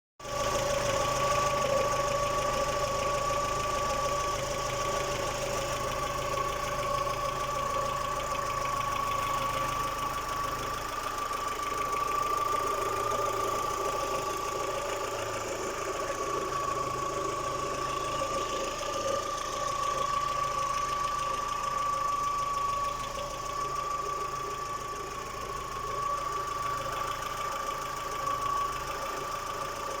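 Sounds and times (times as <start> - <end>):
car engine idling: 0.2 - 30.0.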